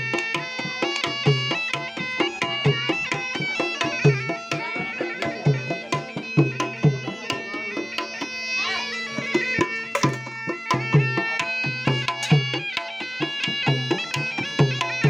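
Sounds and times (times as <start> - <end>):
hand drum beat: 0.0 - 8.3, 9.1 - 15.0
bagpipe playing folk tune: 0.0 - 15.0.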